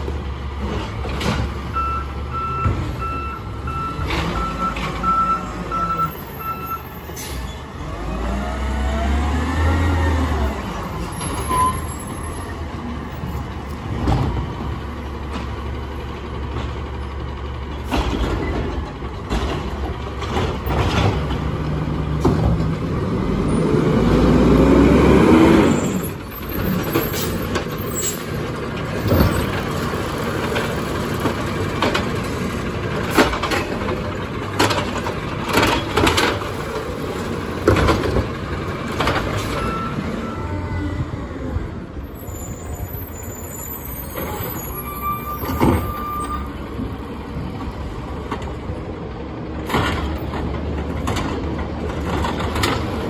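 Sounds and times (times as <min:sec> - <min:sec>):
diesel engine revving: 0:00.0 - 0:53.0.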